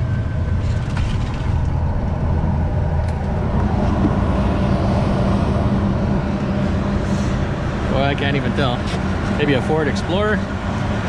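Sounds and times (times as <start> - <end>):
road noise inside cab: 0.0 - 11.0
truck diesel engine drone: 0.0 - 11.0.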